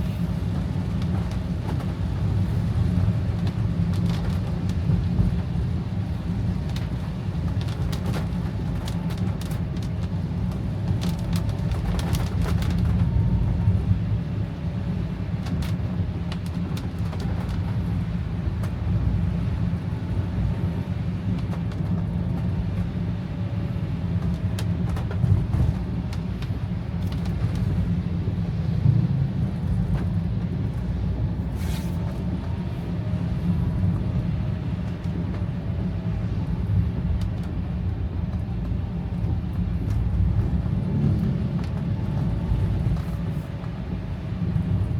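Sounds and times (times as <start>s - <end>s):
car driving in heavy rain: 0.0s - 44.9s.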